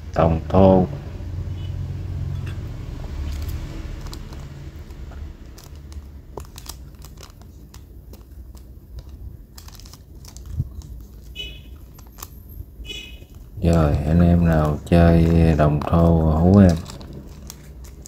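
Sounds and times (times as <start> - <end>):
handling crinkling: 3.3 - 18.0.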